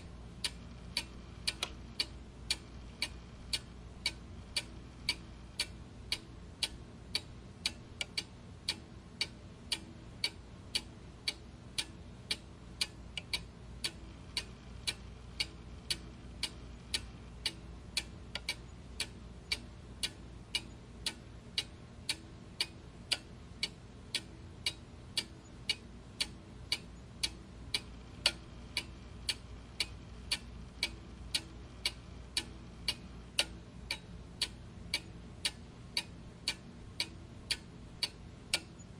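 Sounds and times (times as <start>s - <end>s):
faint low hum: 0.0s - 38.9s
mechanical clock ticking: 0.0s - 38.9s.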